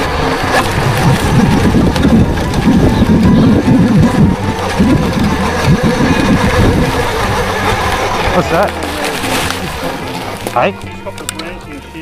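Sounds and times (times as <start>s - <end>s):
wind buffeting microphone: 0.0s - 11.7s
camera rattling over rough ground: 0.0s - 12.0s.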